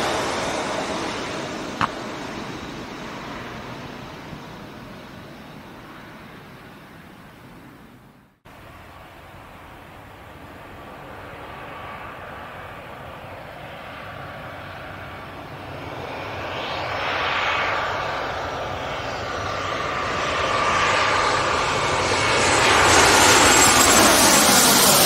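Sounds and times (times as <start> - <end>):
jet airliner engine whine: 0.0 - 25.0.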